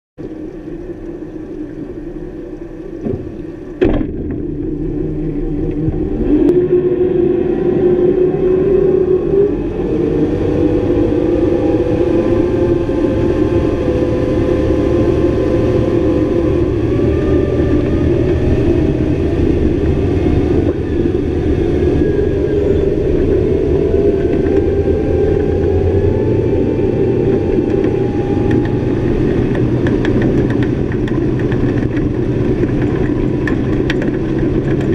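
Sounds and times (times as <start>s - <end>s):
outboard motors running: 0.2s - 34.9s
rush of boat wake: 0.2s - 34.9s.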